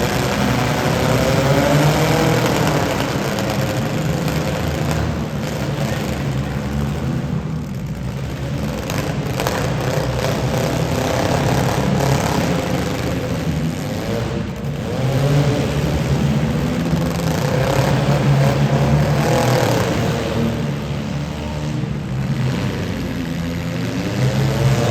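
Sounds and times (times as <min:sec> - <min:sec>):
car engines revving: 0:00.0 - 0:24.9.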